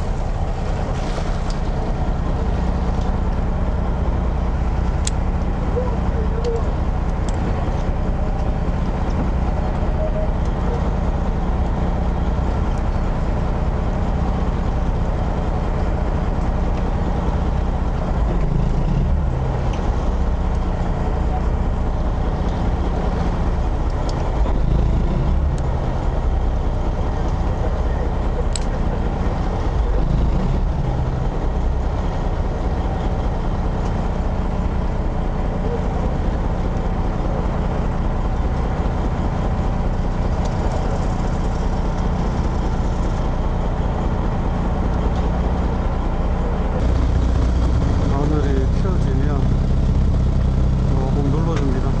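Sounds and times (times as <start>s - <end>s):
boat engine droning: 0.0s - 52.0s.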